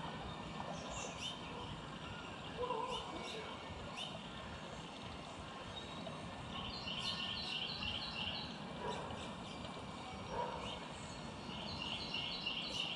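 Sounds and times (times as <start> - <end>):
outdoor background hum: 0.0 - 12.9
songbird singing: 0.0 - 12.9.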